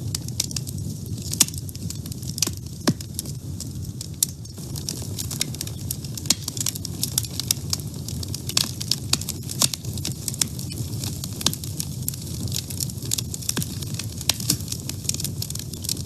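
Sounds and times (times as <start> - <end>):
fire crackling and popping: 0.0 - 16.0
low rumble of flame: 0.0 - 16.0.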